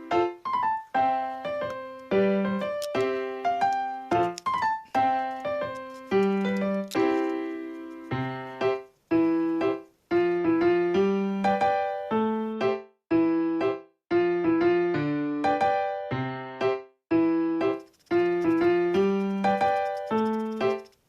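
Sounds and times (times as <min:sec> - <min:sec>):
bouncy piano tune: 0:00.0 - 0:21.0.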